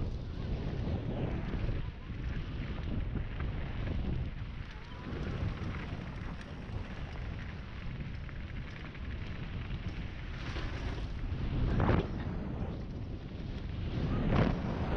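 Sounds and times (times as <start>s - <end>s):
bike rattles and clicks: 0.0s - 14.5s
bike tyres rolling on dirt: 0.0s - 14.9s
wind noise on microphone: 0.0s - 14.9s.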